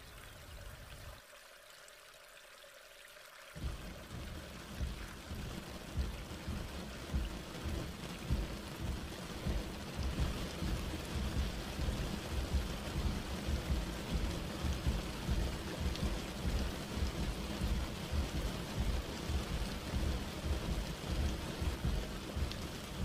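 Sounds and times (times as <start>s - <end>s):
heavy rain pouring: 3.5s - 23.0s
low uneven rumble: 3.6s - 23.0s.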